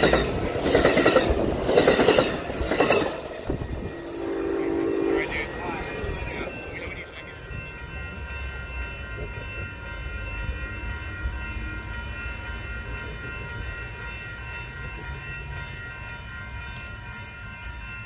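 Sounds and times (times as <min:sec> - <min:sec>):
crossing warning bells ringing: 0:00.0 - 0:18.0
train rumble: 0:00.0 - 0:18.0.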